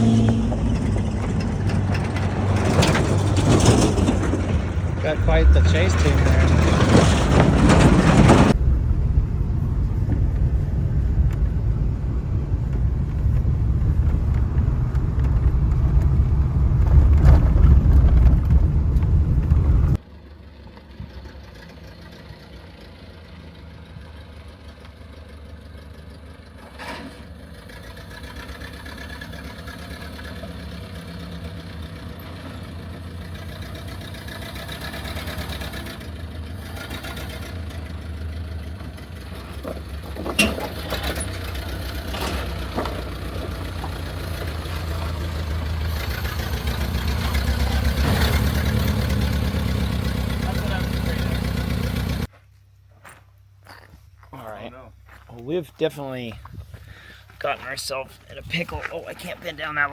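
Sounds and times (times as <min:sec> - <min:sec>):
car engine rumbling: 0:00.0 - 0:59.9.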